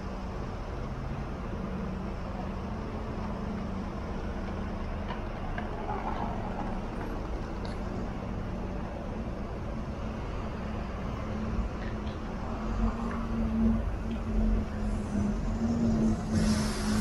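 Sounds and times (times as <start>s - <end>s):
city street traffic: 0.0s - 17.0s
vehicle engine humming nearby: 0.0s - 17.0s.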